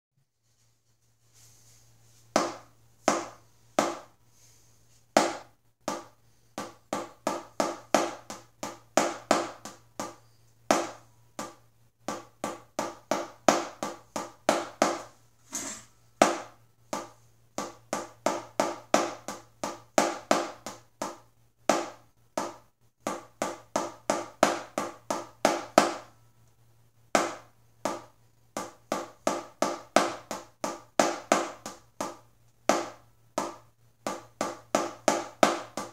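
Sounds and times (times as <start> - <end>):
drumsticks tapping a practice pad: 2.4 - 4.1, 5.2 - 15.1, 16.2 - 26.1, 27.2 - 35.9.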